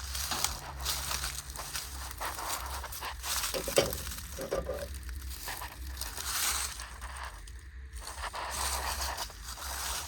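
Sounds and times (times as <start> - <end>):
footsteps in dry grass: 0.0 - 10.0.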